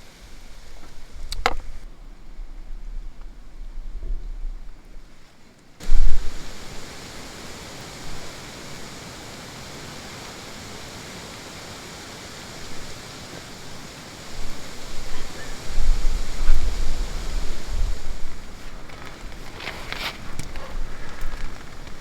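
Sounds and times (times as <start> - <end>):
steady even hiss: 0.0 - 22.0.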